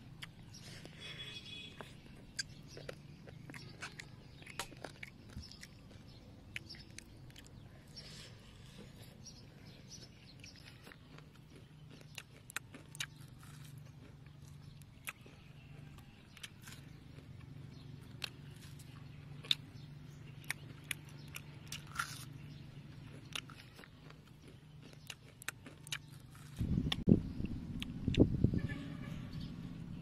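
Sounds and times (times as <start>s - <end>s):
person chewing crunchy food: 0.1s - 27.1s.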